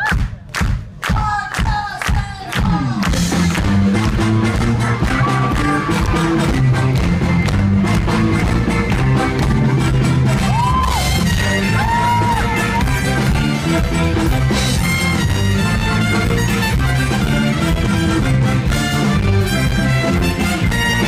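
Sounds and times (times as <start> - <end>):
live rock band playing: 2.5 - 21.0.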